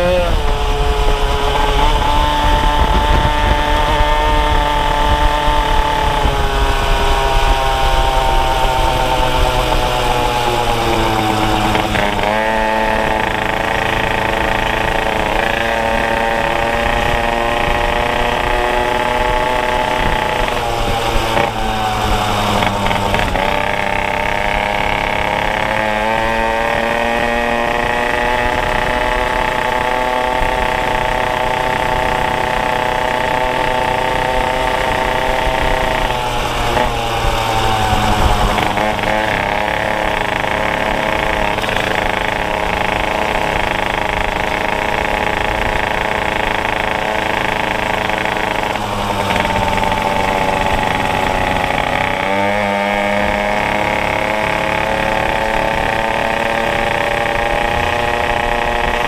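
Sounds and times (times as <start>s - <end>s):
low wind rumble: 0.0s - 59.0s
two-stroke scooter engine: 0.0s - 59.0s.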